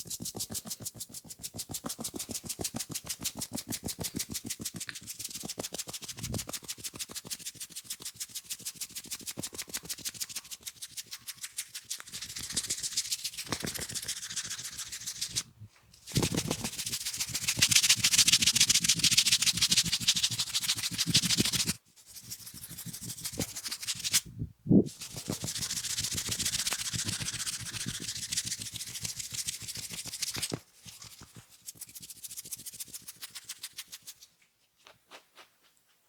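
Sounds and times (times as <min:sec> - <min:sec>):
fingers scratching hair and scalp: 0:00.0 - 0:15.5, 0:16.1 - 0:24.3, 0:24.9 - 0:34.3.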